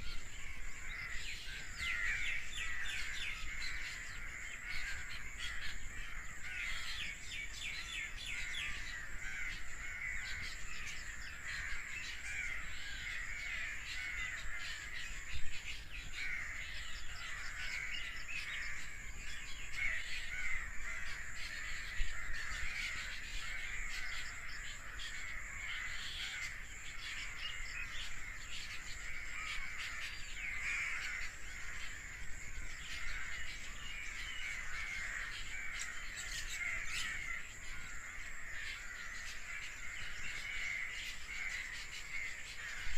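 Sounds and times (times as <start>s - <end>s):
flock of birds calling: 0.0s - 42.9s.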